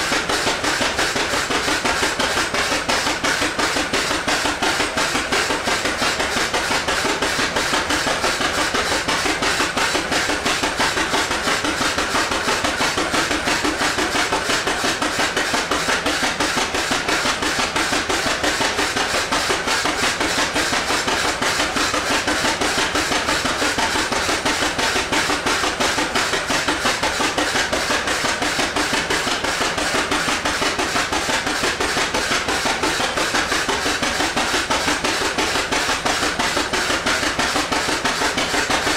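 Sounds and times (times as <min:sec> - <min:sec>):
tractor engine exhaust beats: 0:00.0 - 0:38.9.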